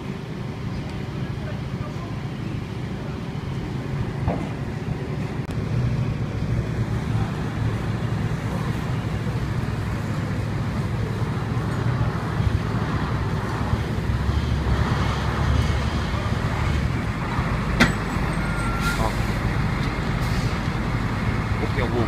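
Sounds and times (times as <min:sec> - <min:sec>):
fire truck engine droning: 0:00.0 - 0:22.0.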